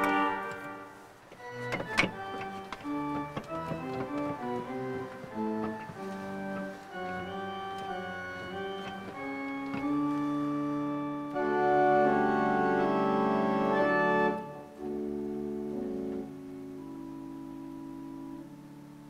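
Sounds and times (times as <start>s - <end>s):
pipe organ chords: 0.0s - 19.0s.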